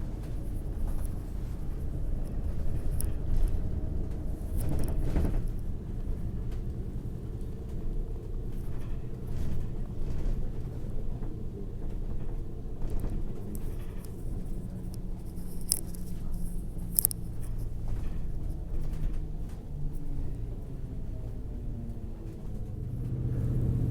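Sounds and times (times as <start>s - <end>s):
faint rustling: 0.0s - 20.7s
moving vehicle rumble: 0.0s - 23.9s.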